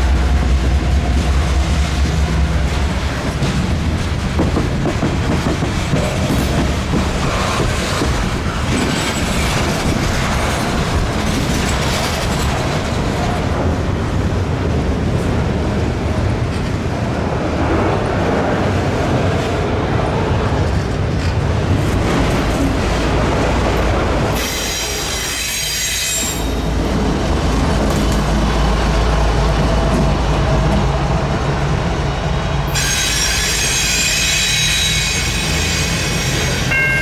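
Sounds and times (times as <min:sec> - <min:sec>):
clickety-clack over rail joints: 0:00.0 - 0:37.0
train wheels rumbling on rail: 0:00.0 - 0:37.0.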